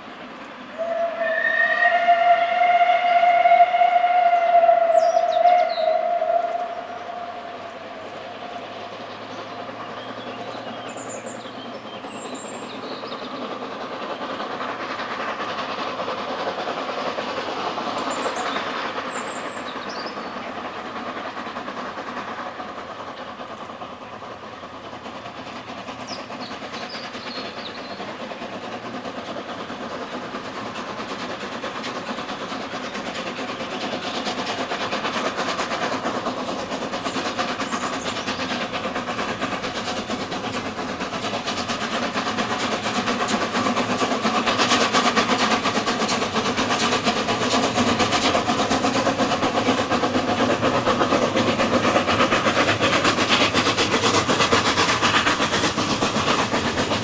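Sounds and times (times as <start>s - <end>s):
steam locomotive chuffing: 0.0s - 57.0s
train rumbling on rails: 0.0s - 57.0s.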